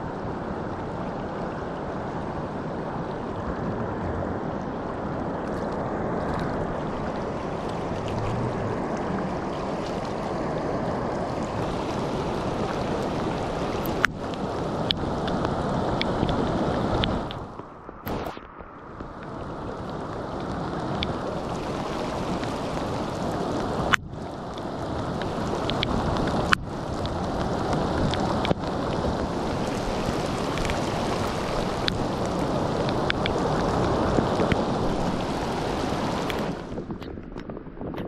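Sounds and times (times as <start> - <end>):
river current rushing: 0.0 - 37.0.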